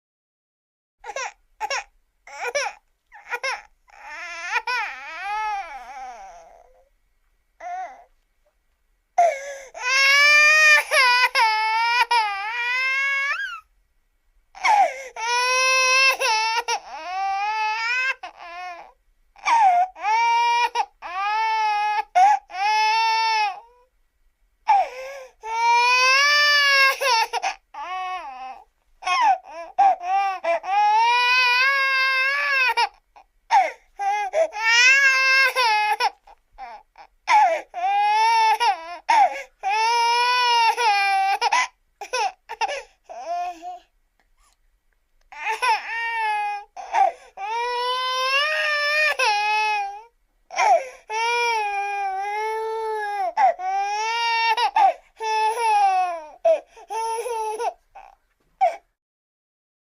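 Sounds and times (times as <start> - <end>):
baby crying: 1.0 - 6.9, 7.6 - 8.1, 9.2 - 13.7, 14.6 - 23.9, 24.7 - 43.9, 45.3 - 58.9.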